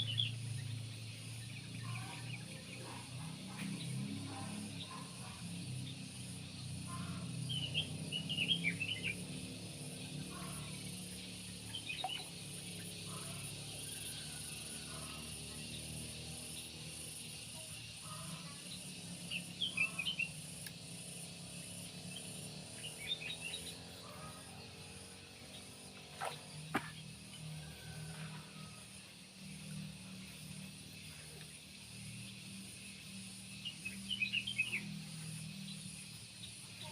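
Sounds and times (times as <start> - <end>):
high insect drone: 0.0 - 36.9.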